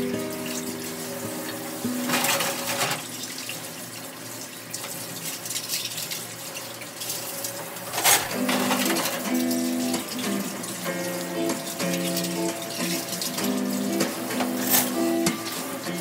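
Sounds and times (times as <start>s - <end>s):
water splashing: 2.1s - 16.0s.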